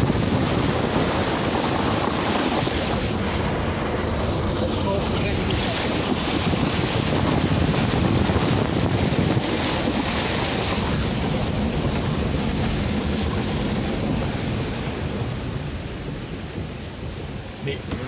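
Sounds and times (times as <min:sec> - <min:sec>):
tyres splashing through water: 0:00.0 - 0:18.0
wind on microphone: 0:00.0 - 0:18.0.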